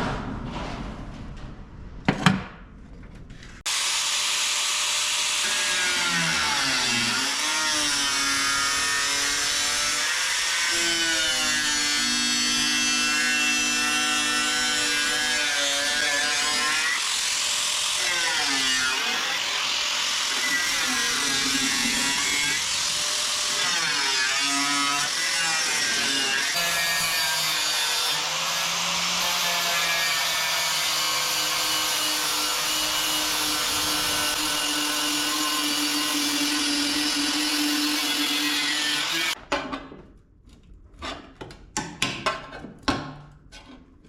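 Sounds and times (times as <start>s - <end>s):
power tool cutting steel: 3.6s - 39.4s.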